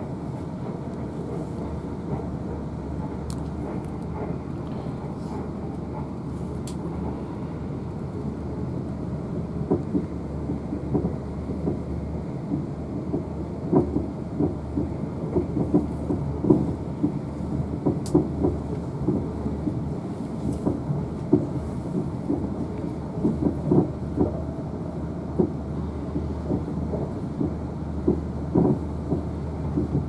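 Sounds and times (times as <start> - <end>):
train interior rumble: 0.0 - 30.0.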